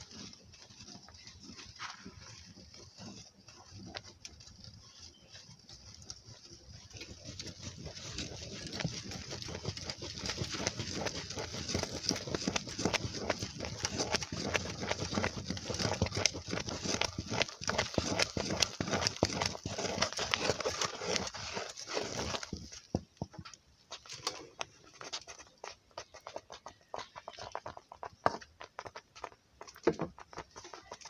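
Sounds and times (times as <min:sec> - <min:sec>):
wooden stick pounding dough in pot: 0:00.0 - 0:04.5, 0:05.2 - 0:31.0.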